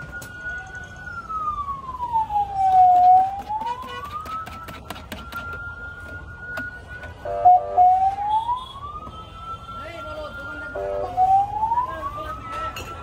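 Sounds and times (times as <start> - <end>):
vehicle siren wailing: 0.0 - 13.0.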